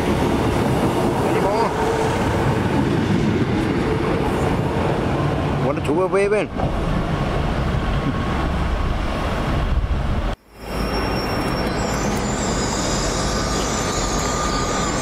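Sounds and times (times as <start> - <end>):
diesel train rumbling: 0.0 - 15.0
train approaching with high whine: 0.0 - 15.0.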